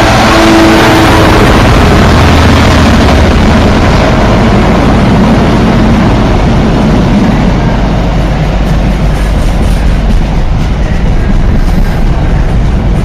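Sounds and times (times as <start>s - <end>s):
diesel locomotive engine passing: 0.0s - 13.0s
wagons rumbling on rails: 0.0s - 13.0s.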